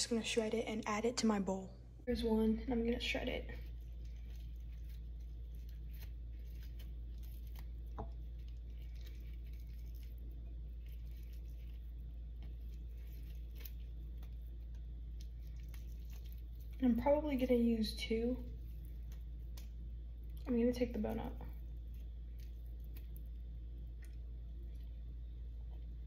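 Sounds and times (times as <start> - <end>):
steady low hum: 0.0 - 26.0
squishing and tearing of meat: 3.3 - 26.0.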